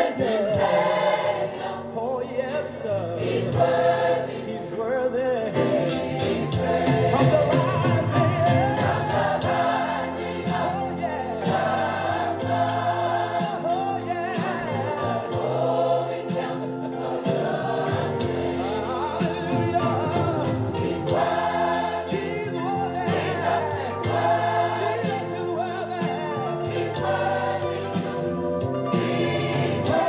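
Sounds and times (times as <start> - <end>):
gospel choir singing: 0.0 - 30.0
instrumental backing: 0.0 - 30.0.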